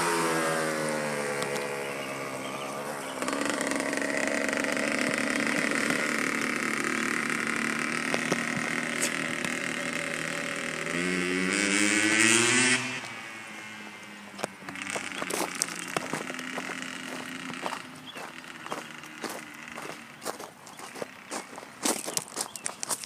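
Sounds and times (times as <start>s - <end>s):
dirt bike engine revving: 0.0s - 22.2s.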